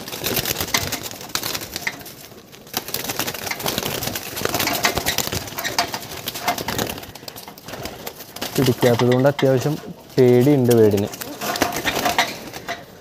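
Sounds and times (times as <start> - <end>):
clicks and rattles: 0.0 - 2.4, 3.0 - 13.0
wings flapping: 0.0 - 13.0.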